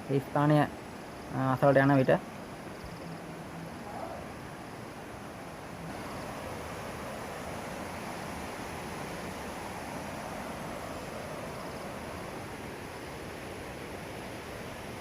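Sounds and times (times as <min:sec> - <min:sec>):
waterfall rushing: 0:02.2 - 0:15.0.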